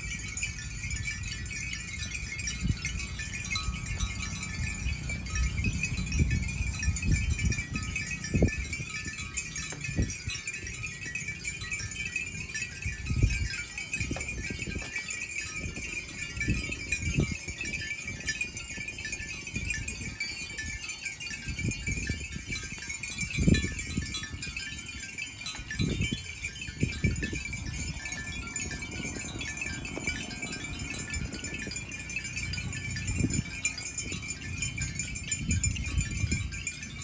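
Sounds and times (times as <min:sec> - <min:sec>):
animal bells clinking: 0:00.0 - 0:37.0.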